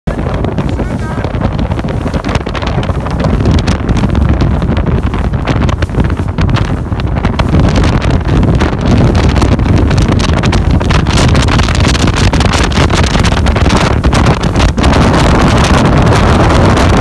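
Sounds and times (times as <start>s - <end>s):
outboard engine: 0.1s - 17.0s
rushing water: 0.1s - 17.0s
wind buffeting microphone: 0.1s - 17.0s.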